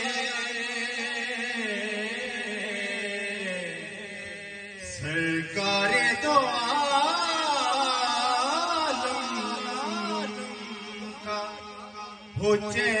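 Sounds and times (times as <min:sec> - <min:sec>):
man chanting devotional poem: 0:00.0 - 0:13.0.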